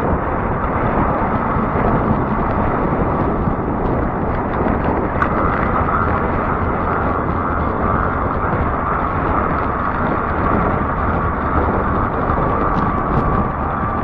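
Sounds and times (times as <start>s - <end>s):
faint steady whine: 0.0s - 14.0s
tyre and road rumble: 0.0s - 14.0s
wind buffeting microphone: 0.0s - 14.0s.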